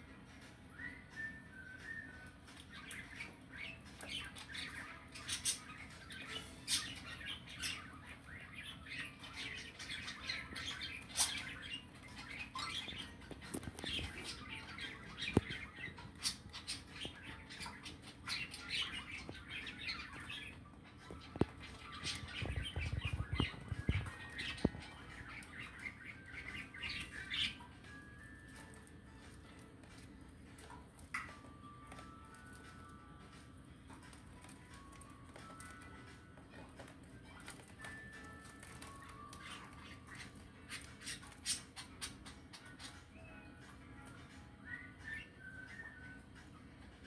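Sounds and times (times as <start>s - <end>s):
budgerigars chirping: 2.7s - 32.7s, 34.1s - 43.3s.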